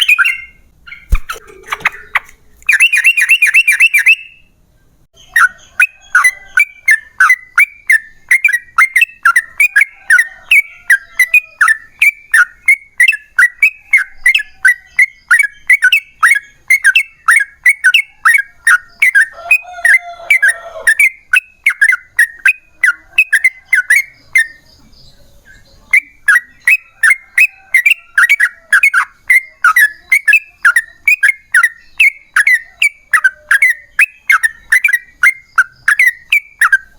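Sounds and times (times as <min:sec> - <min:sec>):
bulbul singing chirping notes: 0:00.0 - 0:36.9.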